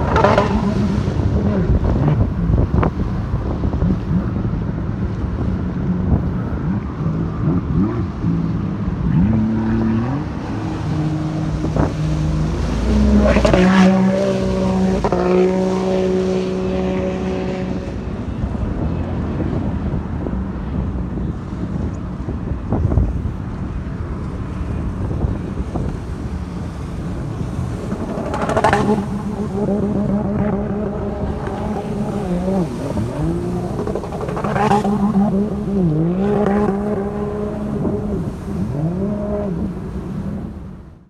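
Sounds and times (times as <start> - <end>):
jet ski engines revving: 0.0 - 41.0.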